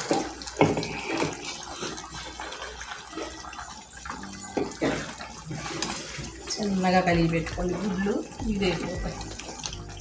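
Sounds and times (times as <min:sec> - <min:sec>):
curry bubbling in pot: 0:00.0 - 0:10.0.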